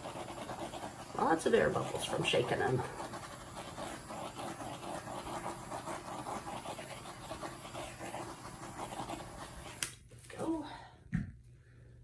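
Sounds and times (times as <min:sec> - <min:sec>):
butane torch flame hissing: 0:00.0 - 0:10.1.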